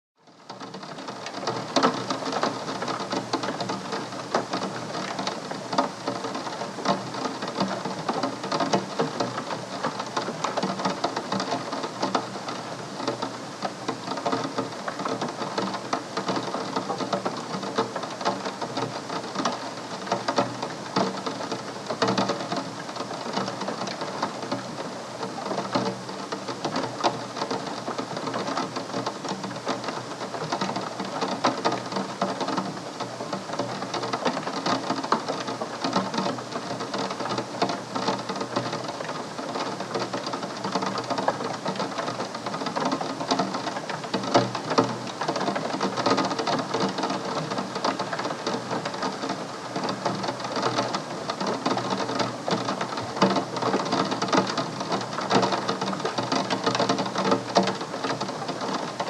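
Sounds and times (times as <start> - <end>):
rain pattering on window glass: 0.2 - 59.0.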